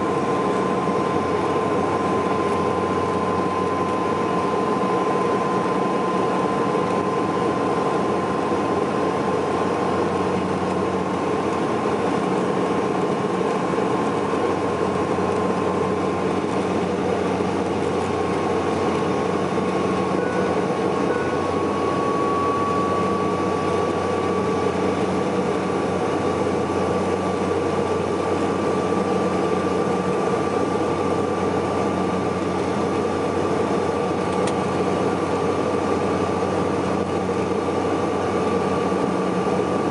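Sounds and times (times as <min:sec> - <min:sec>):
high whine: 0:00.0 - 0:33.9
turboprop engine drone in cabin: 0:00.0 - 0:39.9.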